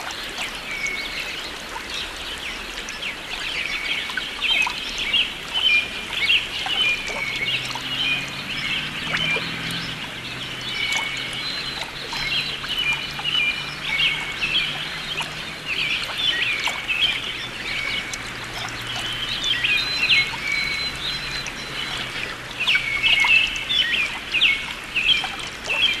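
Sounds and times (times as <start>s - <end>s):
birds chirping: 0.1s - 26.0s.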